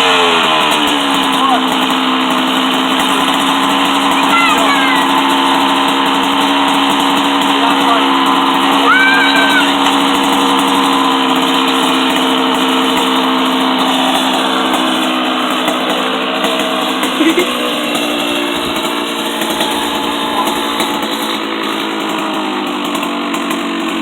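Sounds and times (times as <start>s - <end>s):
dirt bike engine idling: 0.0s - 24.0s.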